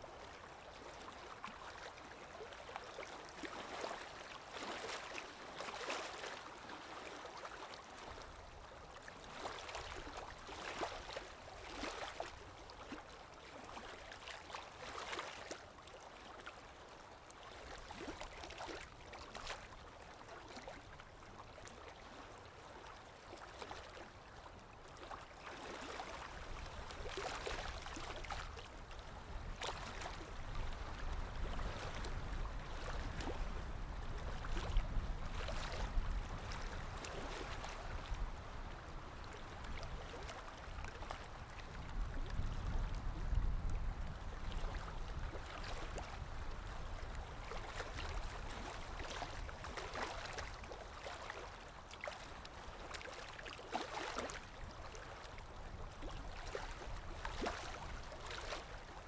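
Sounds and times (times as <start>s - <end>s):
stream water flowing and splashing: 0.0s - 59.0s.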